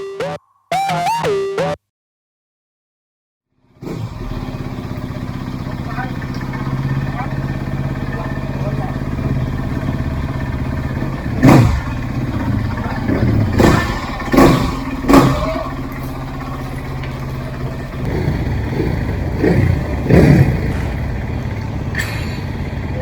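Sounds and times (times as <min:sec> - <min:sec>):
dirt bike engine revving: 0:03.8 - 0:23.0.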